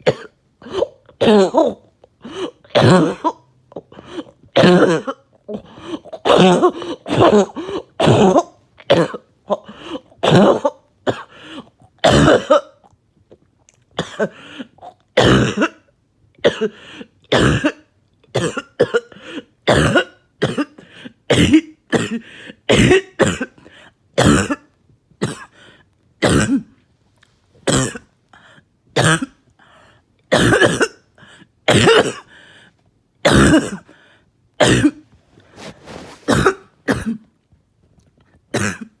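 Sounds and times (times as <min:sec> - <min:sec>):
person coughing wetly: 0:00.0 - 0:12.9, 0:14.0 - 0:25.6, 0:26.2 - 0:26.8, 0:27.6 - 0:28.1, 0:29.0 - 0:29.4, 0:30.3 - 0:31.1, 0:31.7 - 0:32.3, 0:33.2 - 0:34.0, 0:34.6 - 0:37.3, 0:38.5 - 0:39.0.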